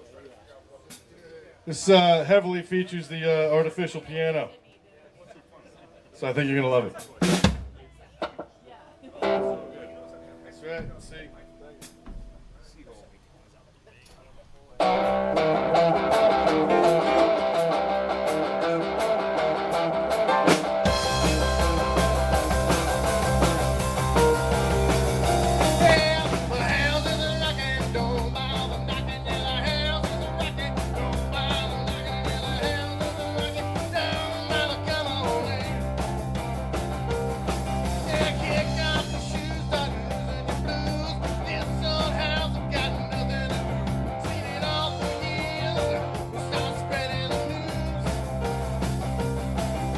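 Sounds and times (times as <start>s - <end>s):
guitar: 2.8s - 49.9s
live rock band: 6.4s - 12.8s, 14.8s - 49.9s.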